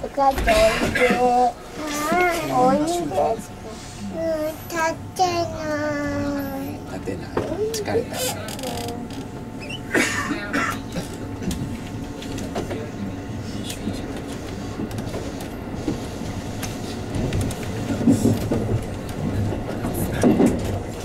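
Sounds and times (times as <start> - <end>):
train wheels and motors rumbling: 0.0 - 21.0.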